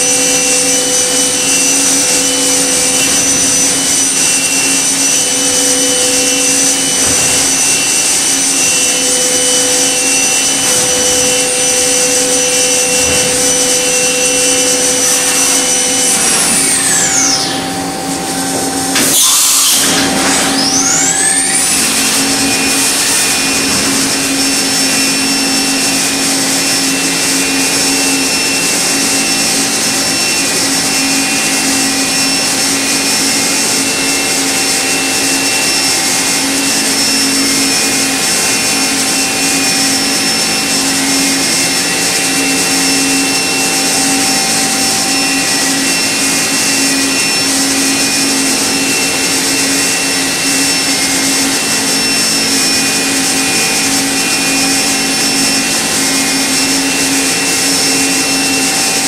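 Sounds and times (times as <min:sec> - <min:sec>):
machining spindle whine: 0:00.0 - 0:59.0.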